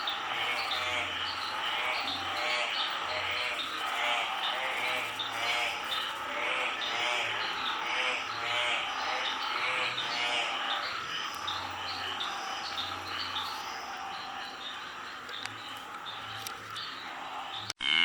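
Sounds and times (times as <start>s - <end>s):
frogs croaking: 0.0s - 18.0s.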